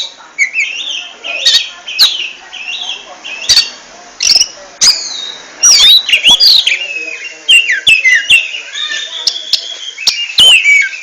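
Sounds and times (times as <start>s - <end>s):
bird whistled song: 0.4s - 11.0s.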